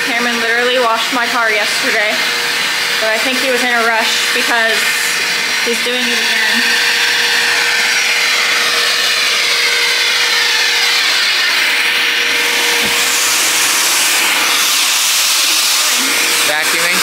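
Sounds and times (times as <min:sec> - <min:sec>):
shop vacuum running: 0:00.0 - 0:17.0.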